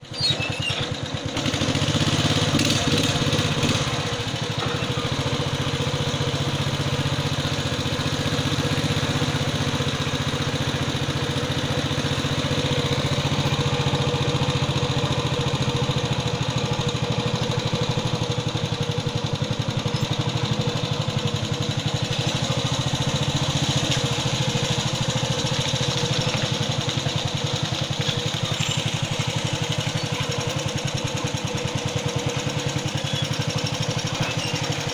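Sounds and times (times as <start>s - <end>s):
boat engine chugging: 0.0s - 34.9s.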